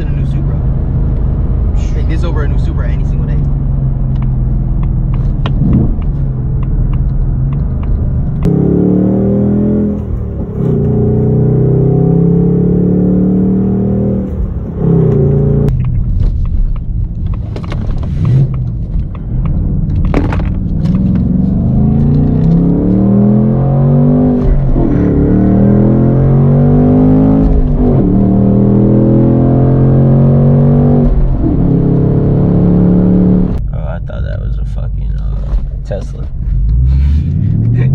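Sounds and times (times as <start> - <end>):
car engine revving: 0.0 - 33.6, 34.6 - 37.9.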